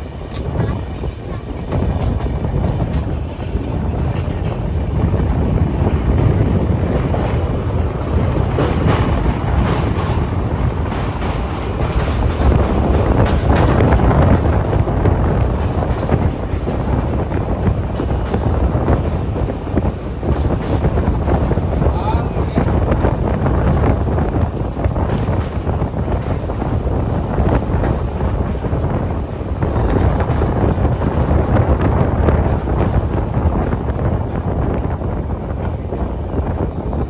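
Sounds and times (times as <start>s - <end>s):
rail clicks and rattles: 0.0s - 37.0s
train wheels rumbling on rails: 0.0s - 37.0s
wind buffeting microphone: 0.0s - 37.0s.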